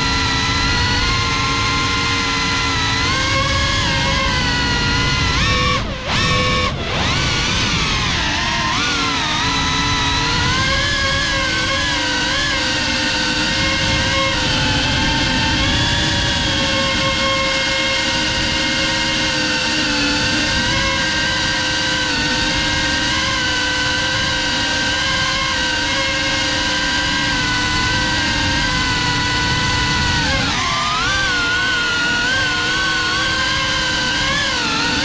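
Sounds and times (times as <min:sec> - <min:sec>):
drone propellers whining: 0:00.0 - 0:35.0.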